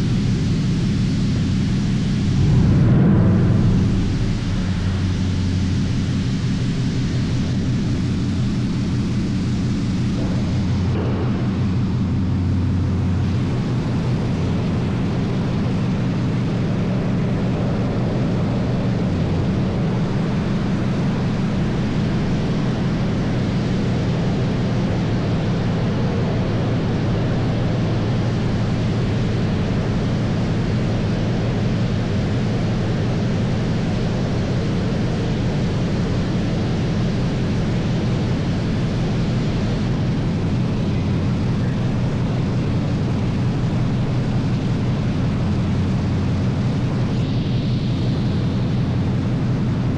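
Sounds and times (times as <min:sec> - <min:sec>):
low hum: 0:00.0 - 0:49.9.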